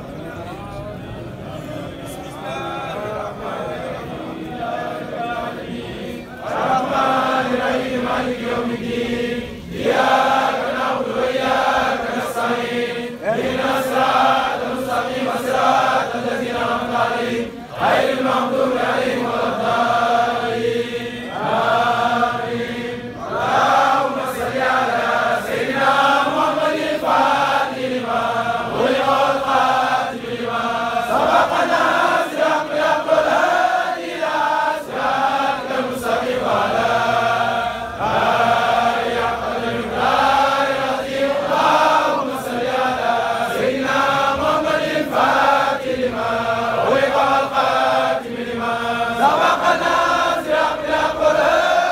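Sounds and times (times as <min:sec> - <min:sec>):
men chanting in unison: 0:02.0 - 0:51.9.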